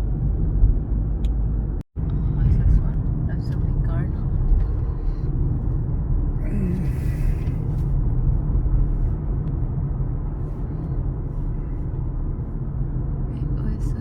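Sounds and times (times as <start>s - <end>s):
car interior road rumble: 0.0s - 14.0s.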